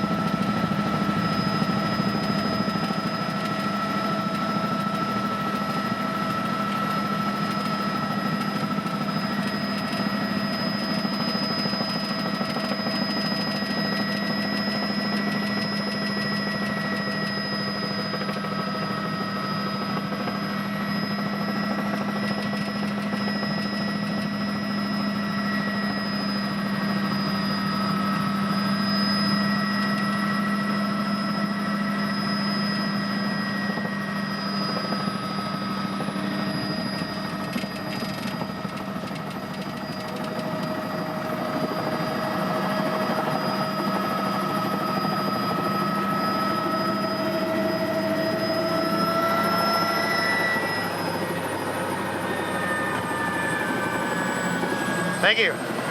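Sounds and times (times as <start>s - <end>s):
helicopter rotor and engine drone: 0.0s - 55.9s
high turbine whine: 0.0s - 55.9s.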